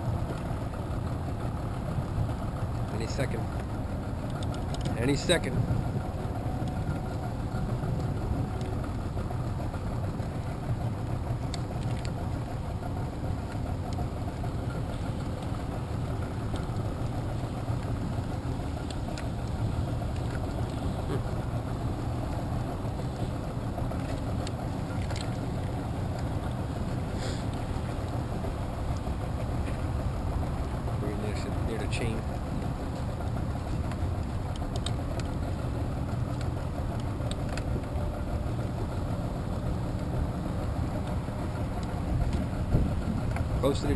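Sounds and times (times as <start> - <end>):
boat motor idling: 0.0 - 43.9.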